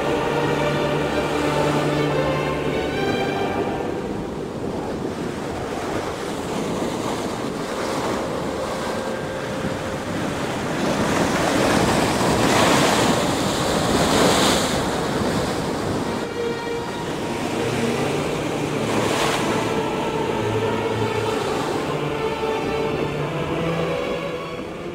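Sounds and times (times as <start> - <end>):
ocean surf breaking on beach: 0.0 - 24.9
wind on microphone: 0.0 - 24.9.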